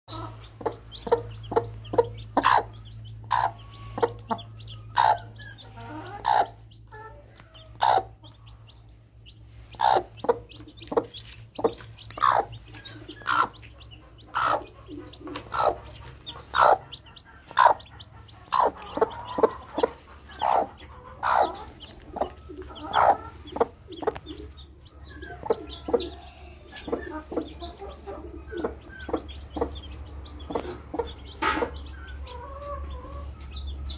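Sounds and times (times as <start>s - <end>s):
hen clucking: 0.1s - 33.9s.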